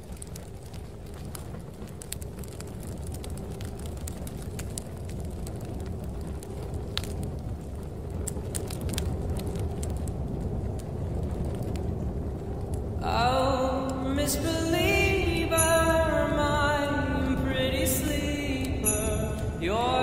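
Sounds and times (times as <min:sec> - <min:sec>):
fire crackling and popping: 0:00.0 - 0:20.0
low rumble of wind: 0:00.0 - 0:20.0.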